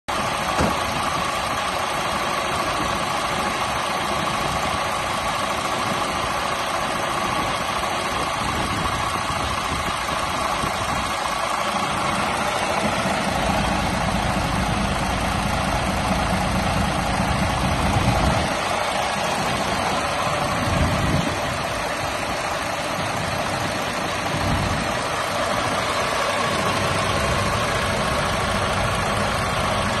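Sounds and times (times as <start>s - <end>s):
deeper rumble: 0.1s - 30.0s
diesel coach engine idling: 0.1s - 30.0s
steady whine: 0.1s - 30.0s.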